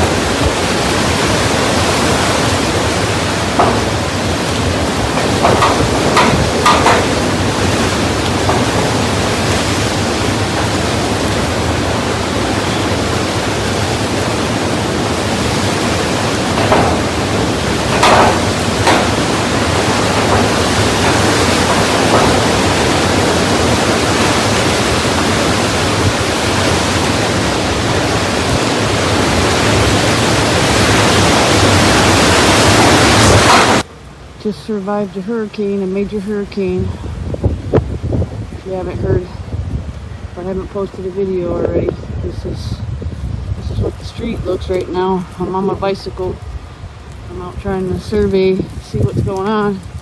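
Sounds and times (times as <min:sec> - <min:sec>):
heavy rain: 0:00.0 - 0:50.0
hurricane wind: 0:00.0 - 0:50.0.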